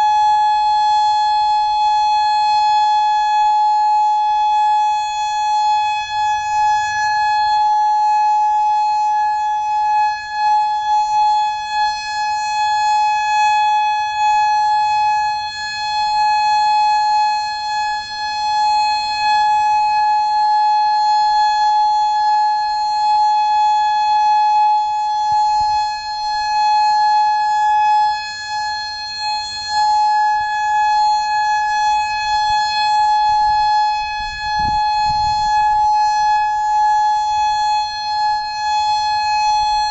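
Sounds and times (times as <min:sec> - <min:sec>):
electronic siren steady tone: 0:00.0 - 0:39.9.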